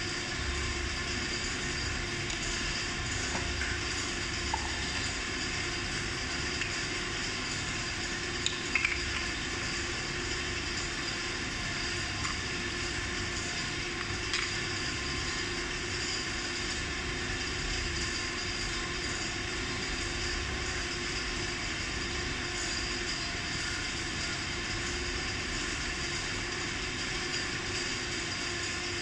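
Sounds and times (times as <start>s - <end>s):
workshop background hum: 0.0s - 29.0s.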